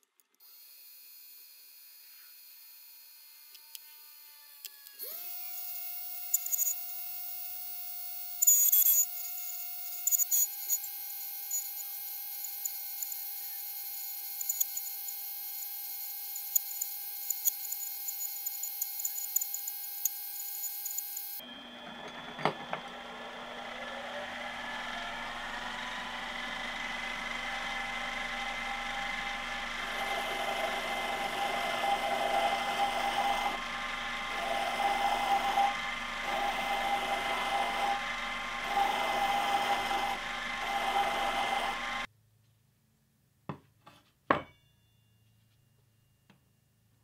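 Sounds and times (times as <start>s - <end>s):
metal lathe whining: 2.0s - 42.1s.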